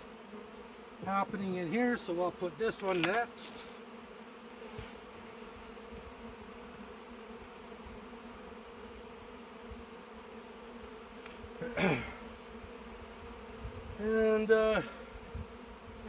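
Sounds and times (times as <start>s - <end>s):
bee buzzing close by: 0.0s - 16.0s
bees buzzing: 0.0s - 16.0s.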